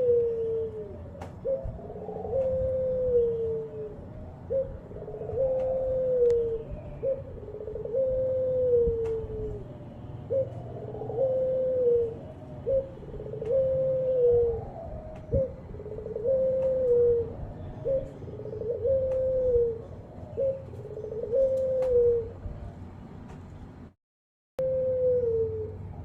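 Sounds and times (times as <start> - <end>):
dove cooing: 0.0 - 22.9, 24.6 - 26.0.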